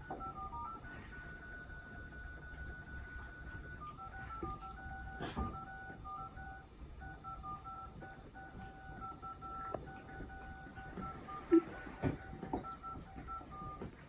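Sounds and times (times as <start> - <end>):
phone keypad beeping: 0.0 - 14.0.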